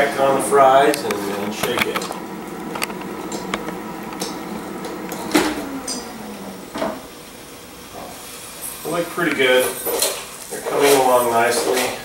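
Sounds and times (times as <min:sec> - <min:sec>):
air fryer fan whir: 0:00.0 - 0:12.0.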